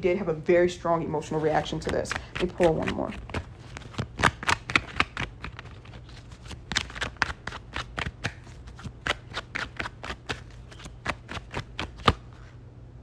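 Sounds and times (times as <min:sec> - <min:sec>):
cards being shuffled: 0:01.3 - 0:12.5.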